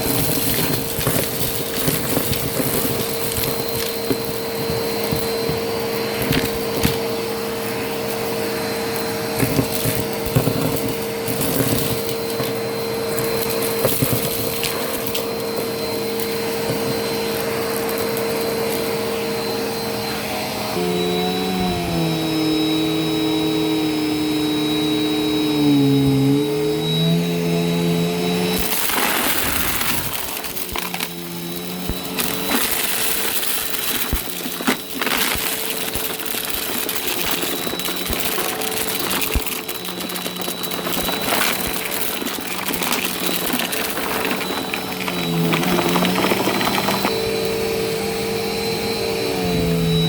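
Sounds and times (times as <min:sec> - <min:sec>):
debris crackling in vacuum: 0:00.0 - 0:50.0
vacuum cleaner motor running: 0:00.0 - 0:50.0.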